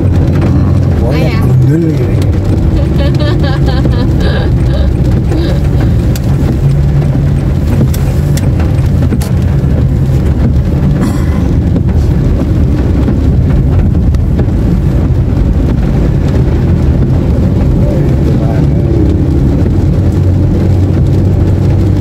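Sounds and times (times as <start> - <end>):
car engine and tyres rumble: 0.0 - 22.0.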